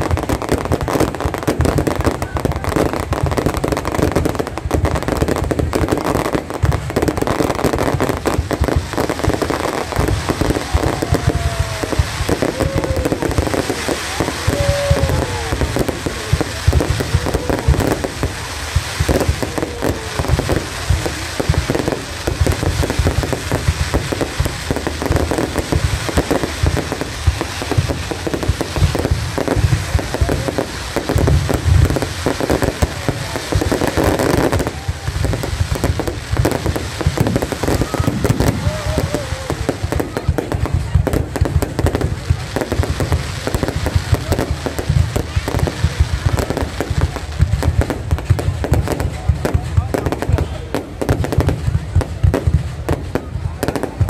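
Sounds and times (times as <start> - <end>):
firework shell bursts and crackling: 0.0 - 54.0.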